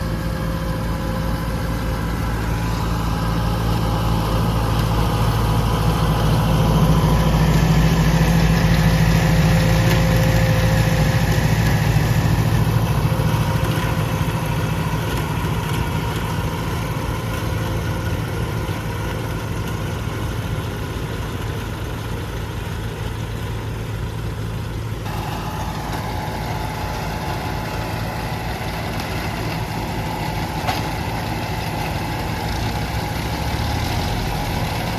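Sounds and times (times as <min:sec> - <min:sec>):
tractor engine droning: 0:00.0 - 0:34.9.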